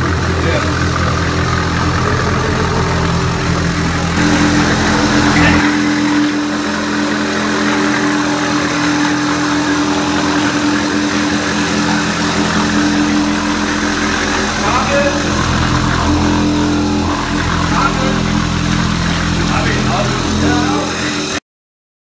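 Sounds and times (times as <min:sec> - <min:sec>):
blade scraping floor: 0:00.0 - 0:21.4
electric motor humming: 0:00.0 - 0:21.4.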